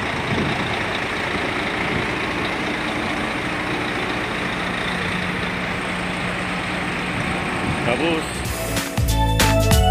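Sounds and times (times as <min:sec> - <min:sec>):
heavy truck engine running: 0:00.0 - 0:09.9
road and cab noise: 0:00.0 - 0:09.9.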